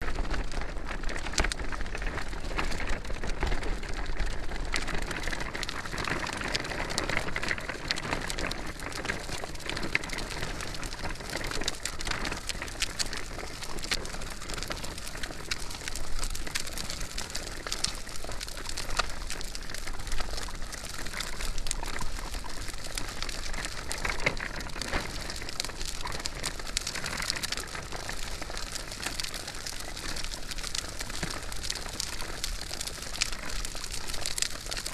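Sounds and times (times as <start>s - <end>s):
stroller wheels rolling: 0.0s - 34.9s.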